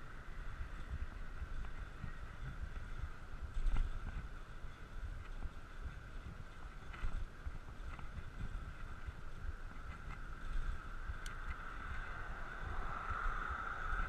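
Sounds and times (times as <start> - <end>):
bicycle tyres road noise: 0.0 - 14.0
steady high hum: 0.0 - 14.0
wind rumbling on microphone: 0.0 - 14.0.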